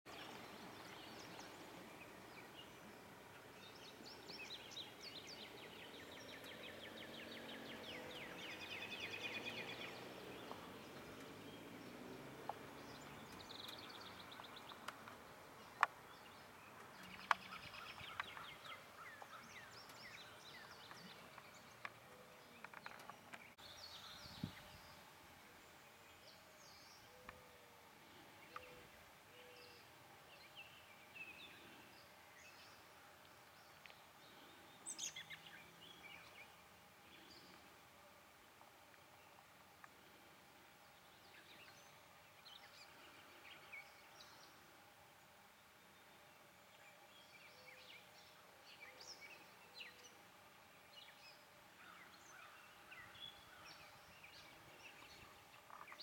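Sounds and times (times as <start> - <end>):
songbirds singing: 0.1 - 56.0.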